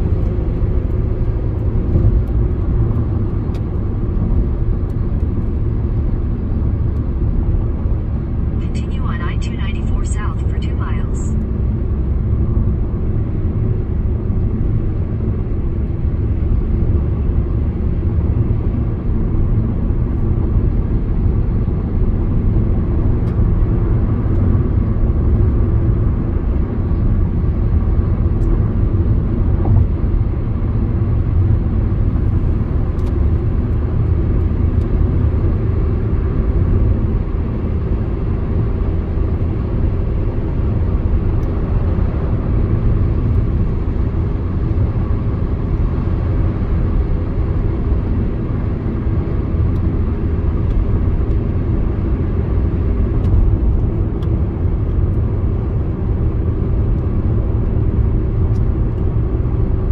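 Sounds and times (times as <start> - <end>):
car interior road noise: 0.0 - 59.9.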